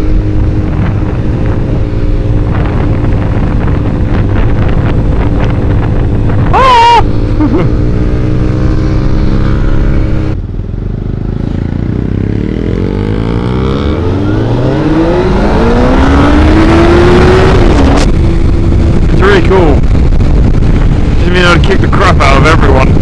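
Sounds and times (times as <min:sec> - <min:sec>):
motorcycle engine revving: 0:00.0 - 0:23.0
wind rushing over microphone: 0:00.0 - 0:23.0.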